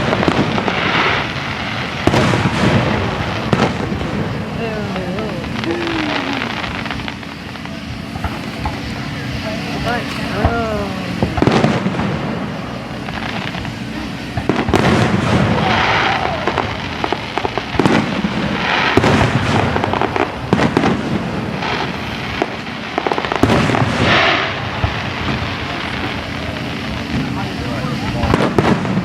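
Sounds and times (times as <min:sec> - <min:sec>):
continuous rumble of fireworks: 0:00.0 - 0:29.0
firework booms: 0:00.0 - 0:29.0
firework crackling: 0:00.0 - 0:29.0.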